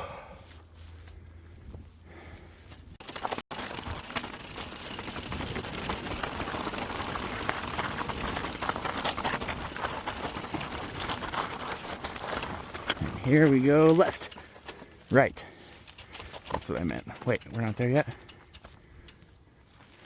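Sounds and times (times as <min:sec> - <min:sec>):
bike rattling: 0:01.3 - 0:20.0
bike tyres crunching gravel: 0:02.1 - 0:20.0.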